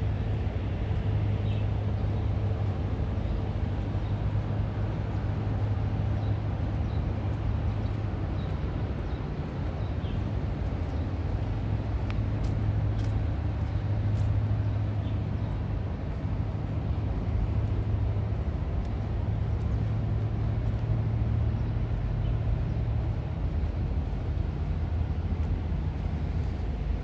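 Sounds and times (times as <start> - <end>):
low engine drone: 0.0 - 27.0
outdoor background noise: 0.0 - 27.0.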